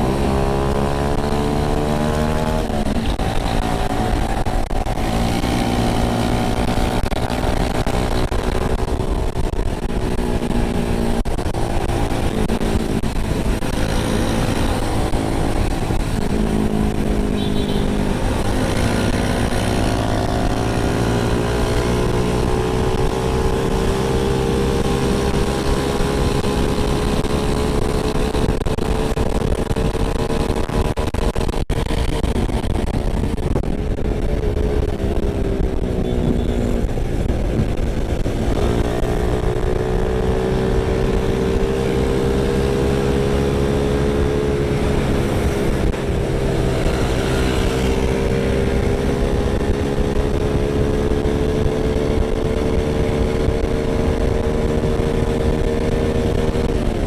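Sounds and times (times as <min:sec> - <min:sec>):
motorcycle engine running: 0:00.0 - 0:57.0
wind rush over microphone: 0:00.0 - 0:57.0.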